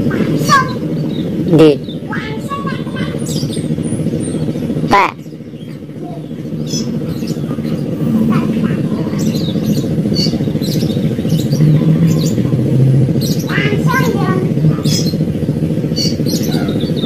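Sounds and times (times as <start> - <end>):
engine humming: 0.0 - 17.0
bird chirps: 0.4 - 17.0.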